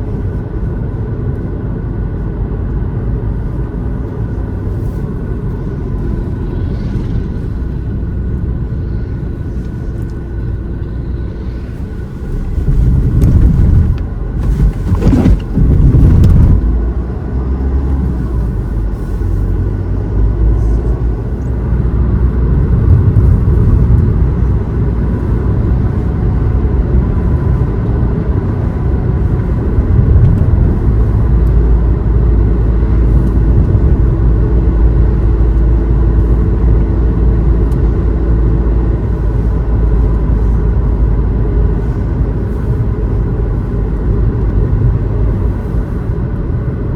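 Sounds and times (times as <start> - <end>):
vehicle engine and road noise: 0.0 - 46.9.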